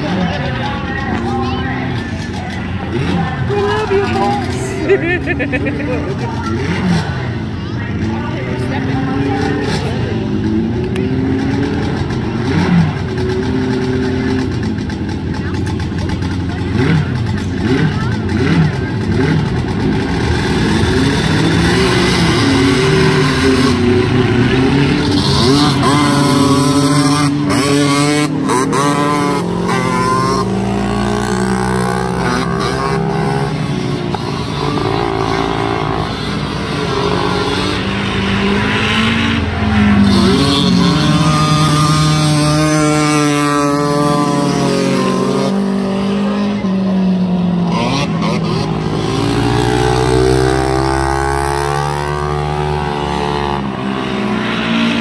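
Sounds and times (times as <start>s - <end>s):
racing engines revving: 0.0s - 55.0s.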